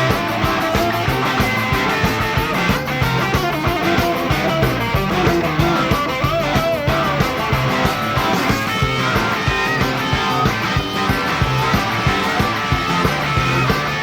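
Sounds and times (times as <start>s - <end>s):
driving drum beat: 0.0s - 14.0s
lead electric guitar bending notes: 0.0s - 14.0s
rock and roll band playing: 0.0s - 14.0s.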